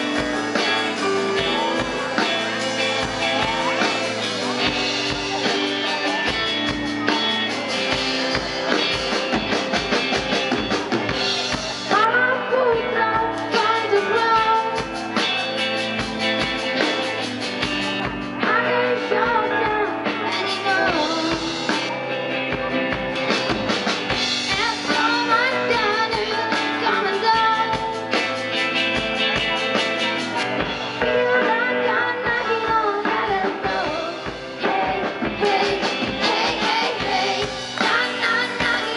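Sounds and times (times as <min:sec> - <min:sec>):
person singing: 0:00.0 - 0:23.4, 0:24.4 - 0:38.9
drum kit beat: 0:00.0 - 0:38.9
guitar: 0:00.0 - 0:38.9.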